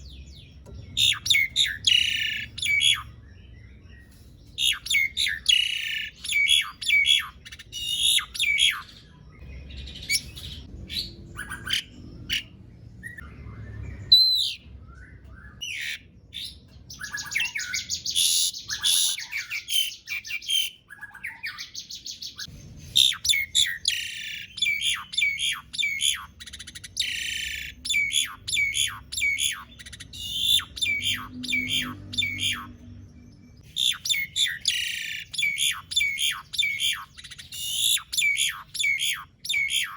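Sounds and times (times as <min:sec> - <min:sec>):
starling singing chattering song: 0:00.0 - 0:03.6, 0:04.4 - 0:39.9.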